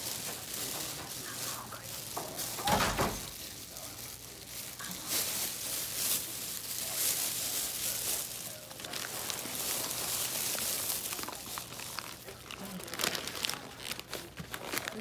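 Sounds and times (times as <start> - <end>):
bedding rustling: 0.0 - 15.0.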